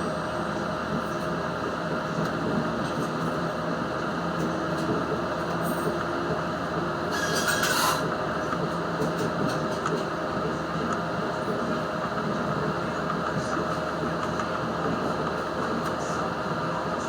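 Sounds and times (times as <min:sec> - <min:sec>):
train engine and wheels rumbling: 0:00.0 - 0:17.0.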